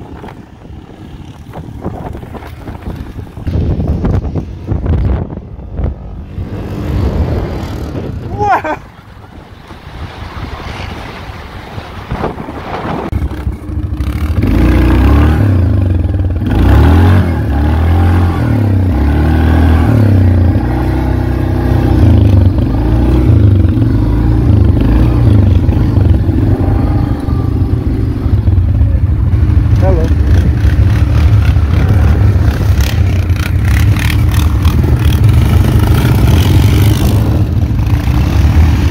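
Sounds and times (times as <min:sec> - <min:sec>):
atv engine revving: 0:00.0 - 0:08.8, 0:13.1 - 0:38.9.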